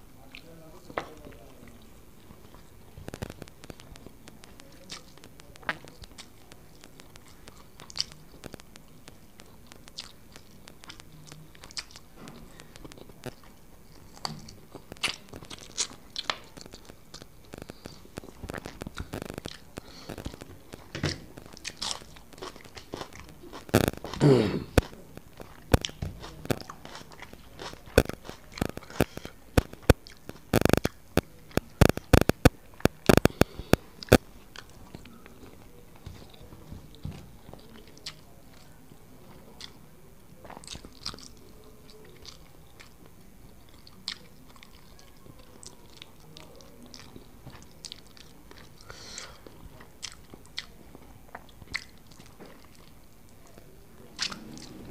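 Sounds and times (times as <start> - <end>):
close-up chewing with crunches: 0.2 - 54.9.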